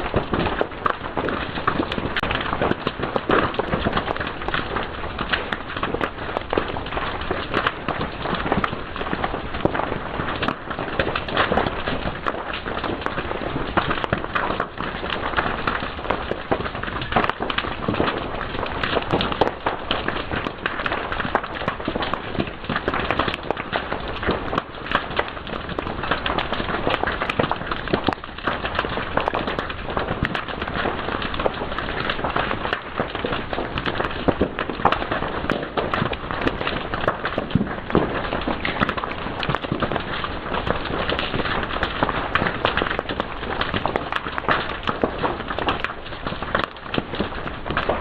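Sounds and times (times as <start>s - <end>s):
fire crackling and popping: 0.0s - 48.0s.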